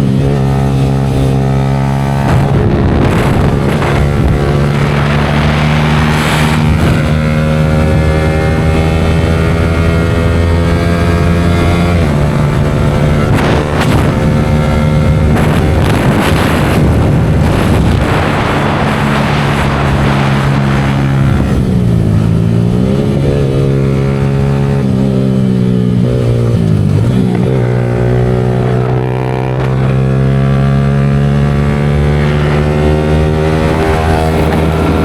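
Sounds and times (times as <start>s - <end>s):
motorcycle engine running: 0.0s - 35.0s
wind gusts on microphone: 0.0s - 35.0s.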